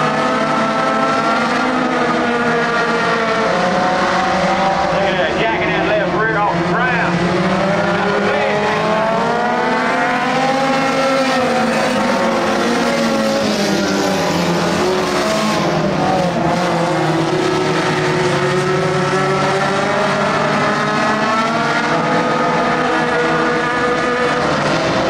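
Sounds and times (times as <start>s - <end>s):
stock car engines racing: 0.0s - 25.0s.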